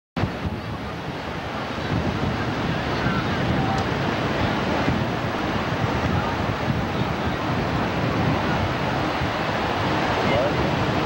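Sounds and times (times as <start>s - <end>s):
ocean surf: 0.2s - 11.0s
wind on microphone: 0.2s - 11.0s.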